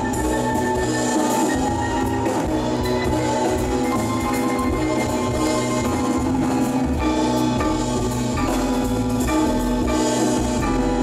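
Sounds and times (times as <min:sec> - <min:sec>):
double bass: 0:00.0 - 0:11.0
drum kit with cymbals: 0:00.0 - 0:11.0
piano: 0:00.0 - 0:11.0.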